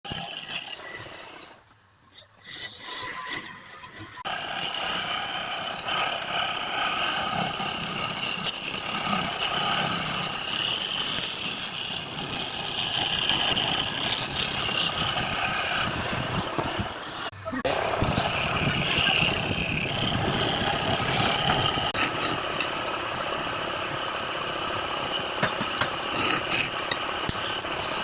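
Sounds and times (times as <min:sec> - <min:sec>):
wood lathe cutting: 0:04.2 - 0:28.0.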